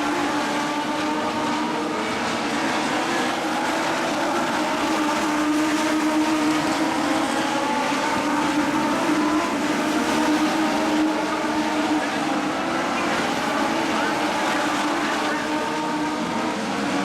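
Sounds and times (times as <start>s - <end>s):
racing engines high-revving: 0.0s - 17.0s.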